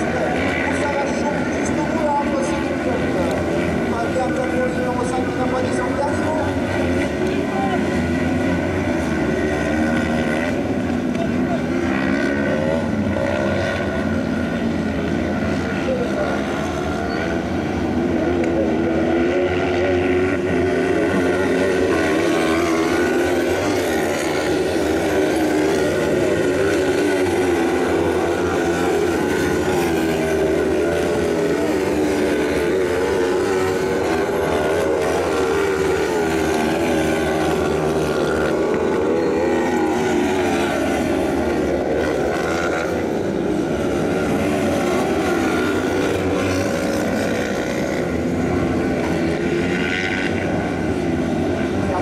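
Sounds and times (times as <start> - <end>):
buggy engines racing: 0.0 - 52.0.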